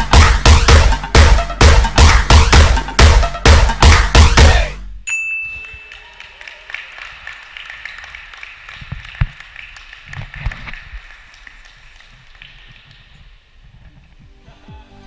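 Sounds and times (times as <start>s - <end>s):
scattered hand clapping: 0.0s - 4.6s, 5.6s - 13.4s.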